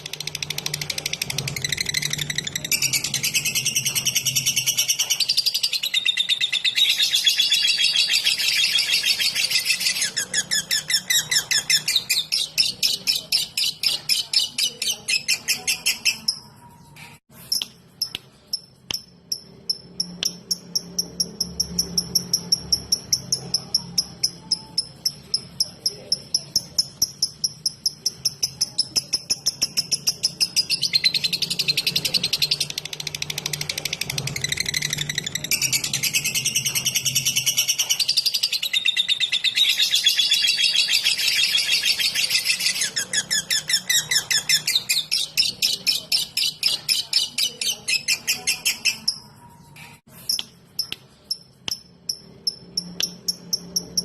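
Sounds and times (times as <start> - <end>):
lovebird chirping song: 0.0 - 54.0.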